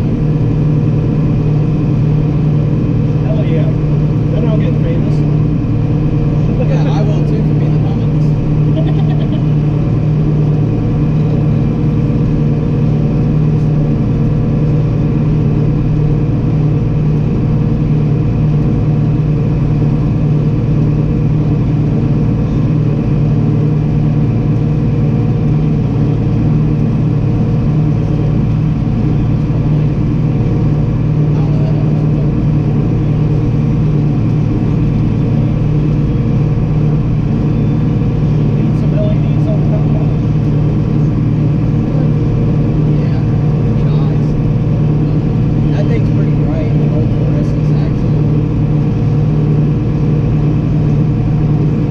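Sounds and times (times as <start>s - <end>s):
harvester engine droning: 0.0s - 51.9s.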